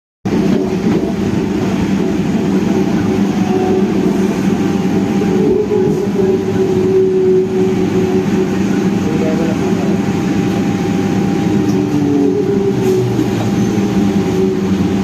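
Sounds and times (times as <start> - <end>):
train running: 0.3 - 15.0.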